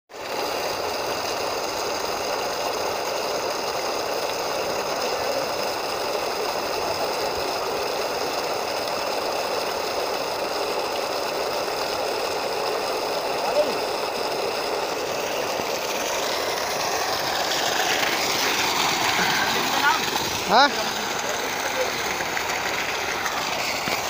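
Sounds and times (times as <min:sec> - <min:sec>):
water gushing from pipe: 0:00.1 - 0:24.0.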